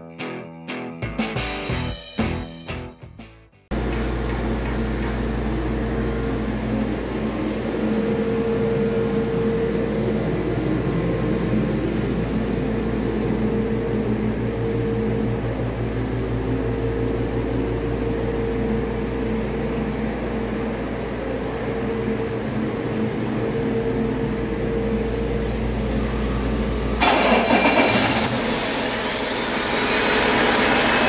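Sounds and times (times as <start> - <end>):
diesel engine steady hum: 3.7 - 31.0.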